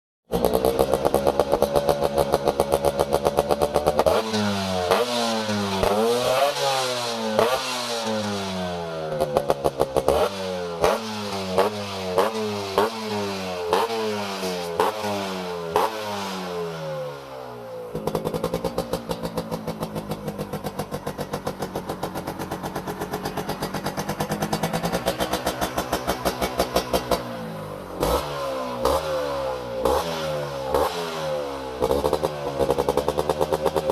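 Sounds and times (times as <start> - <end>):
motorcycle engine revving: 0.3 - 33.9.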